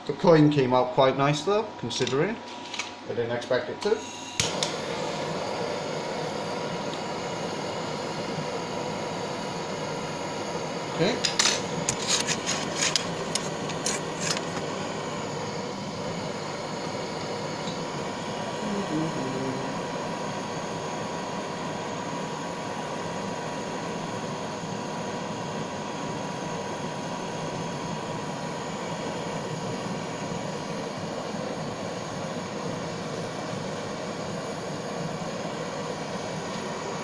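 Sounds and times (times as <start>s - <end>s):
faint steady whine: 0.0s - 37.0s
blowtorch flame hissing: 3.0s - 37.0s.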